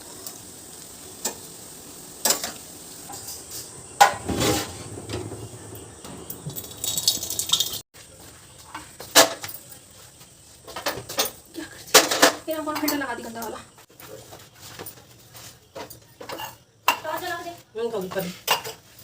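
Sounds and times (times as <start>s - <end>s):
metal utensils and pots clattering: 2.2s - 7.8s, 8.6s - 9.8s, 10.6s - 19.0s.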